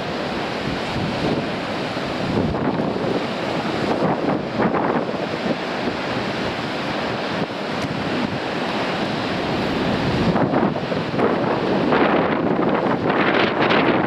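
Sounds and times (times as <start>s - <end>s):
waves breaking on rocks: 0.0s - 14.0s
wind buffeting microphone: 0.0s - 14.0s.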